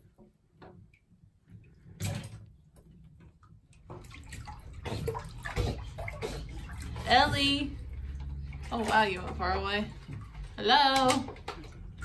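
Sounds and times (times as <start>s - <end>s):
bathwater splashing: 0.0s - 12.0s.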